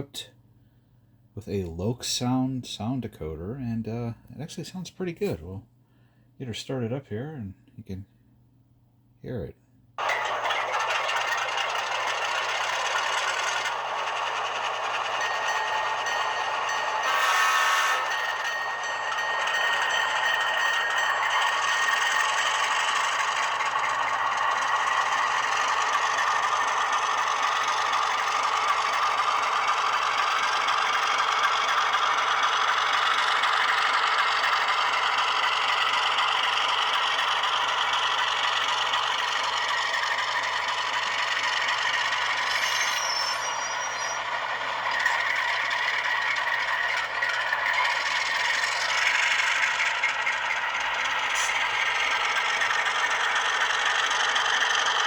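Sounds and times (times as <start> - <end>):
diesel engine sound from small speaker: 0.0 - 8.1, 9.2 - 55.0.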